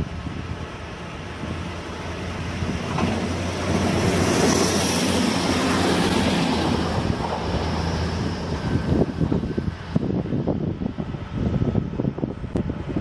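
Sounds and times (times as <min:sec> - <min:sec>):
railcar wheels rumbling and hissing: 0:00.0 - 0:13.0.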